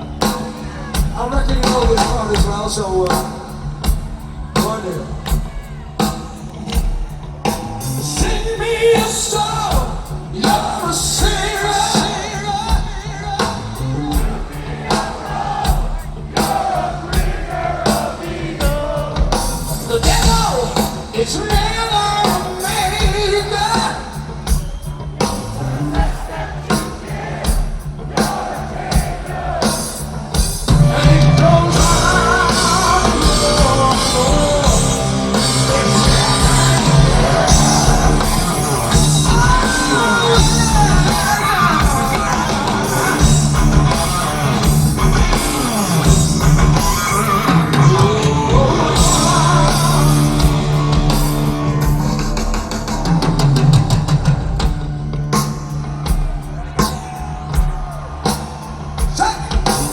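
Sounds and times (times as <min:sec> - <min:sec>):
crowd singing along: 0:00.0 - 0:24.1, 0:25.4 - 0:59.9
heavy metal band playing: 0:00.0 - 0:59.9.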